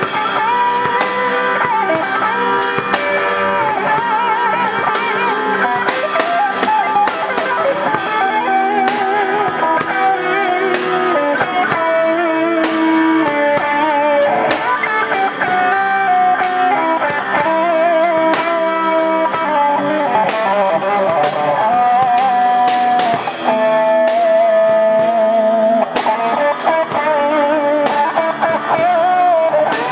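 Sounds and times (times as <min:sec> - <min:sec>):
drum kit steady beat: 0:00.0 - 0:29.9
electric guitar lead with vibrato: 0:00.0 - 0:29.9.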